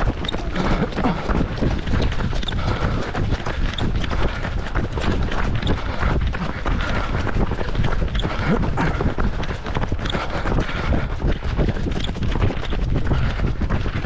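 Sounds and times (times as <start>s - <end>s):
running footsteps on wet asphalt: 0.0s - 14.0s
wind rumbling on microphone: 0.0s - 14.0s.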